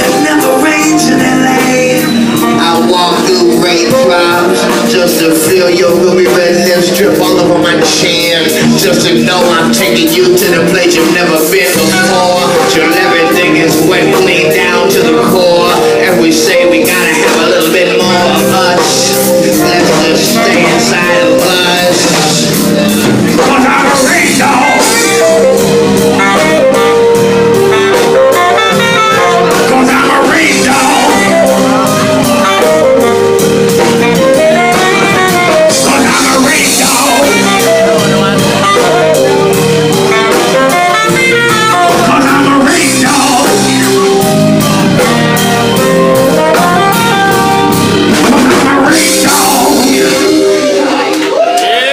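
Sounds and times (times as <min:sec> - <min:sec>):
drum kit with cymbals: 0:00.0 - 0:51.9
live blues band playing: 0:00.0 - 0:51.9.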